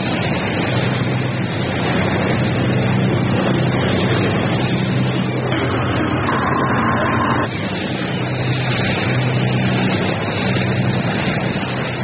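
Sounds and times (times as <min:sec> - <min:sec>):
boat engine hum: 0:00.0 - 0:12.0
waves breaking: 0:00.0 - 0:12.0.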